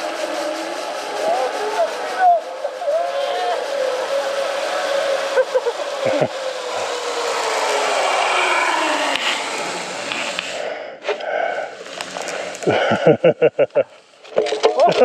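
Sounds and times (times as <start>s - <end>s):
zip line trolley whirring on cable: 0.0s - 15.0s.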